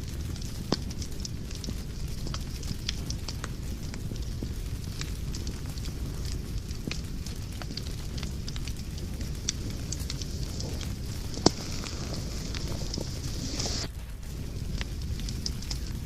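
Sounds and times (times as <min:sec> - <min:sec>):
low rumble of burning: 0:00.0 - 0:16.0
wood fire crackling: 0:00.0 - 0:16.0.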